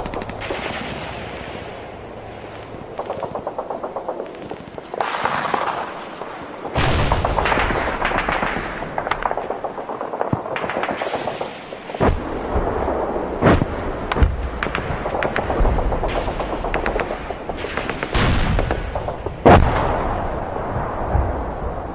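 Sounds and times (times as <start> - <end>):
rapid gunfire: 0.0 - 12.3, 14.2 - 20.0
heavy explosion: 3.2 - 21.8.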